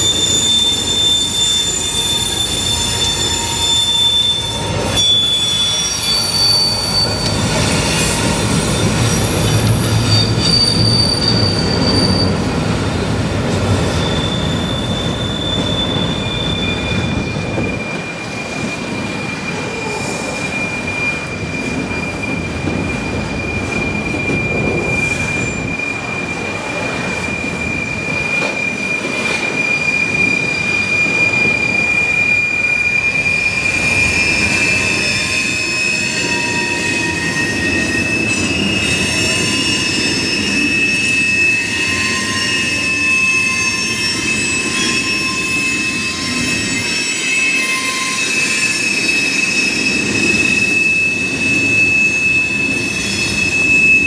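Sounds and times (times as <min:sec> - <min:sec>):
diesel locomotive engines rumbling: 0:00.0 - 0:54.0
train wheels squealing: 0:00.0 - 0:54.0.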